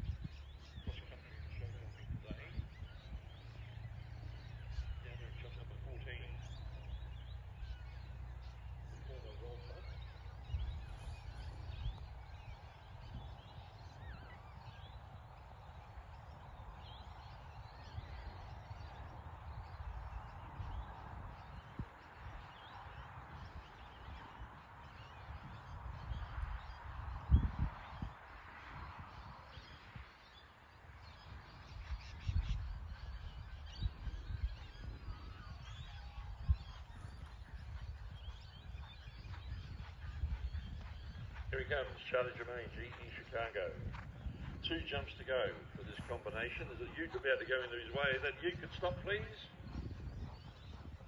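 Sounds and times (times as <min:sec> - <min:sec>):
bird calls and chirps: 0:00.0 - 0:51.0
wind rumble on microphone: 0:00.0 - 0:51.0.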